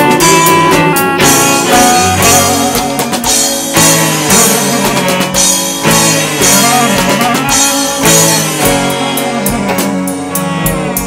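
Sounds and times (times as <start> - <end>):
drum kit with cymbals: 0.0 - 11.0
strummed acoustic guitars: 0.0 - 11.0.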